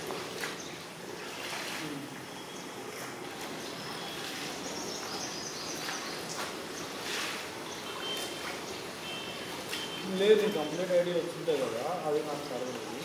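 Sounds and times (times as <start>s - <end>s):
steady background noise: 0.0s - 13.0s
water sloshing and splashing: 0.0s - 13.0s.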